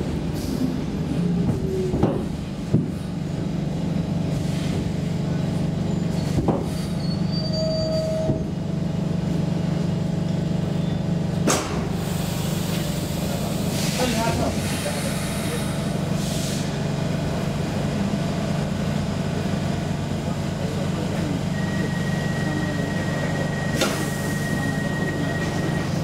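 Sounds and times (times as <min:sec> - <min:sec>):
train knocks and clanks: 0:00.0 - 0:09.2, 0:11.3 - 0:20.3, 0:22.9 - 0:26.0
subway train hum: 0:00.0 - 0:26.0.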